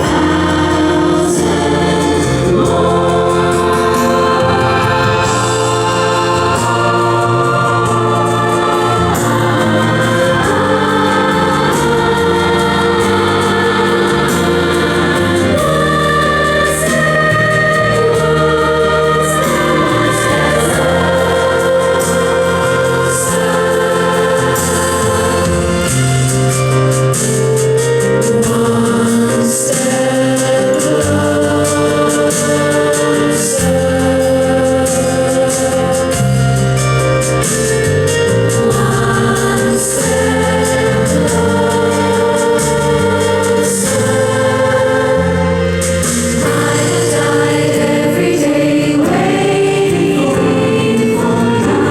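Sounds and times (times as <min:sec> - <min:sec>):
choir singing sustained chords: 0:00.0 - 0:51.9
organ accompaniment: 0:00.0 - 0:51.9.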